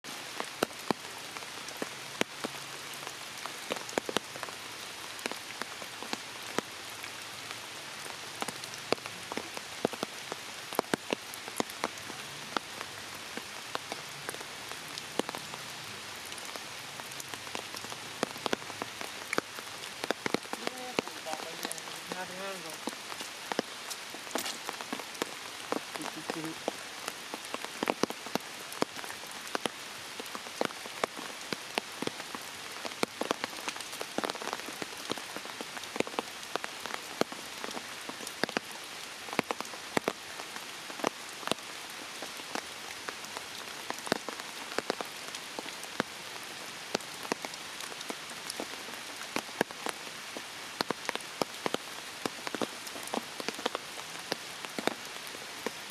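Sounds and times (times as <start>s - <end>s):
steady rain: 0.0s - 55.9s
raindrops tapping close by: 0.1s - 55.9s.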